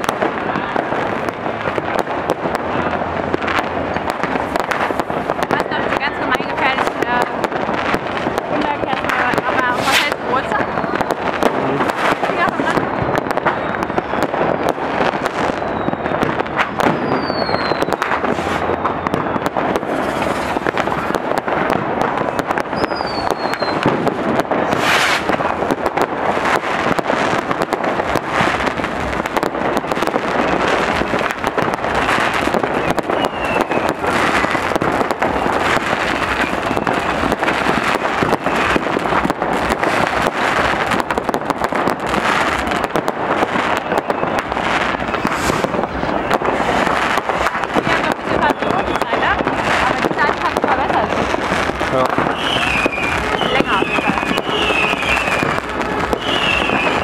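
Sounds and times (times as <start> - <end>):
firecrackers crackling and banging: 0.0 - 57.0
whistling rockets: 0.0 - 57.0.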